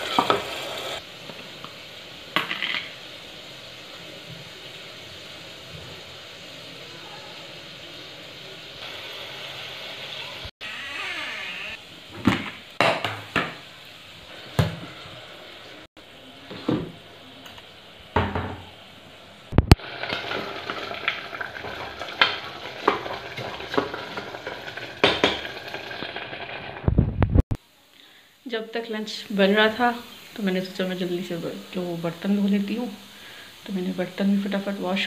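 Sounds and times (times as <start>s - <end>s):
food sizzling in pot: 0.0s - 35.0s.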